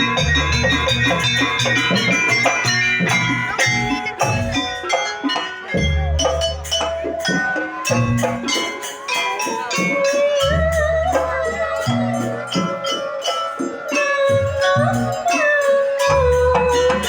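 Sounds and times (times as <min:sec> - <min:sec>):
drums: 0:00.0 - 0:17.0
metal percussion clatter: 0:00.0 - 0:17.0
wind instrument melody bending: 0:00.0 - 0:17.0.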